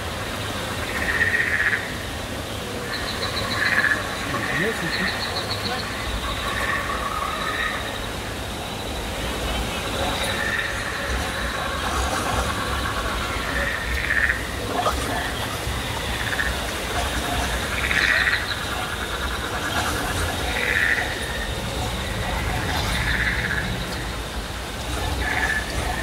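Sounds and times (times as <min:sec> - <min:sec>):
crowd murmur: 0:00.0 - 0:26.0
frog-like croaking calls: 0:00.1 - 0:26.0.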